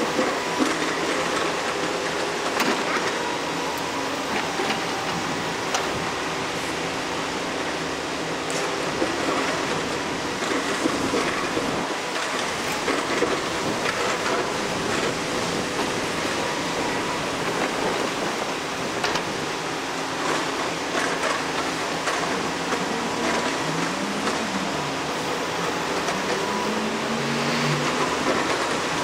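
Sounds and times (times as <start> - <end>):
excavator diesel engine working: 0.0 - 29.0.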